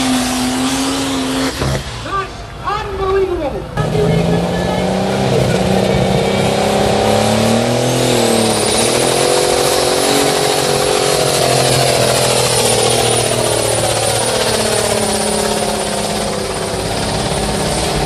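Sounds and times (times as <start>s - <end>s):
tractor engine running hard: 0.0s - 2.8s, 3.6s - 18.0s
high whine: 0.0s - 18.0s.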